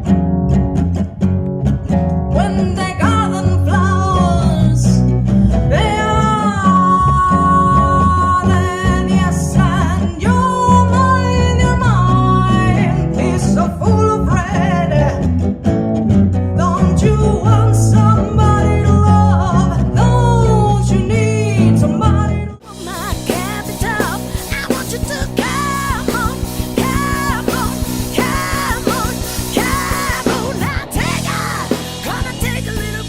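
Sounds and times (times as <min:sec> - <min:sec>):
blues-rock band playing: 0:00.0 - 0:33.0
guitar with sliding notes: 0:00.0 - 0:33.0
person singing: 0:02.3 - 0:15.4, 0:16.5 - 0:33.0.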